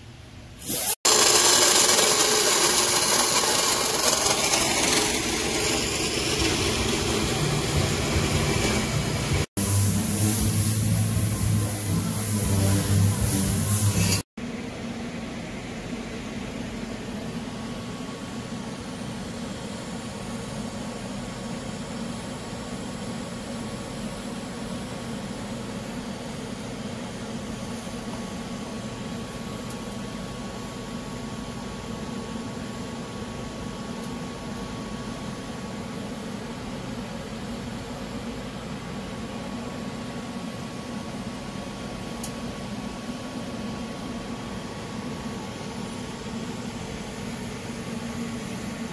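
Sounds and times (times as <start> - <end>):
welding arc hiss and hum: 0.6 - 48.9.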